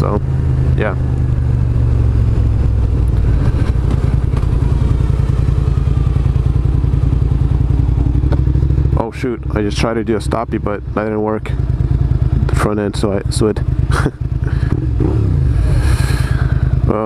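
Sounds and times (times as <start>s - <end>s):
motorcycle engine slowing: 0.0s - 17.0s.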